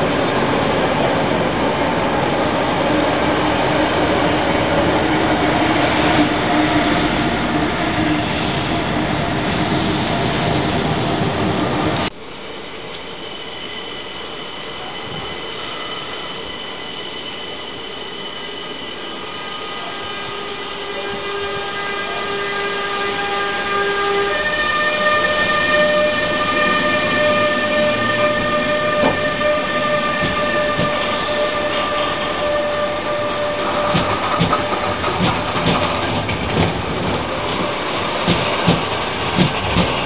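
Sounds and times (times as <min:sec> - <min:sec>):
electric locomotive whine: 0:00.0 - 0:40.0
rumble of train wheels: 0:00.0 - 0:40.0.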